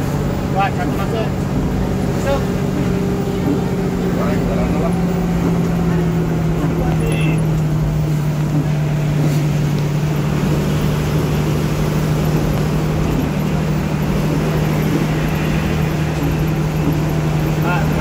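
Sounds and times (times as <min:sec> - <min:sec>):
bus engine droning: 0:00.0 - 0:18.0
tyres hissing on wet road: 0:00.0 - 0:18.0.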